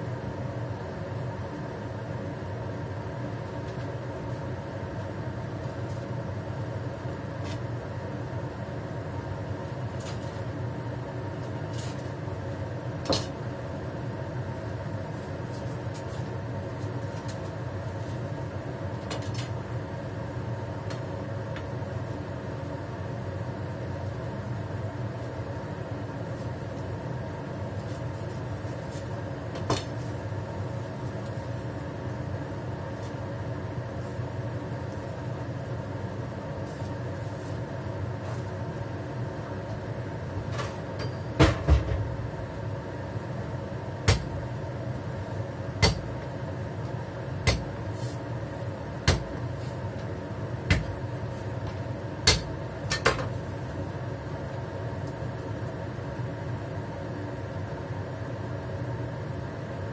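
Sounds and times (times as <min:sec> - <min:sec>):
steady machine hum: 0:00.0 - 0:59.9.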